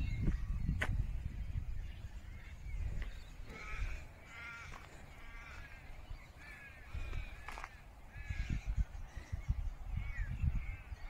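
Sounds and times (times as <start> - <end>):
birds harsh calls: 0.0 - 11.0.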